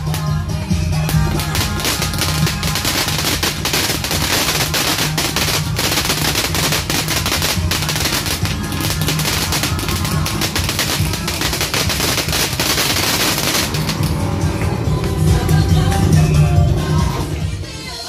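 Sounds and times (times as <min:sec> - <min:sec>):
fireworks popping and crackling: 0:00.0 - 0:17.4.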